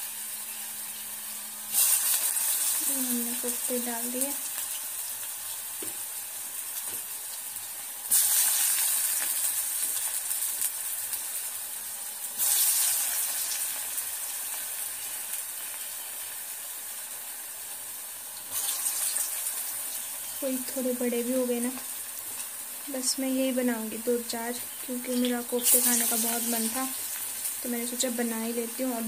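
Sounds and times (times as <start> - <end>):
balls deep-frying in oil: 0.0 - 29.0.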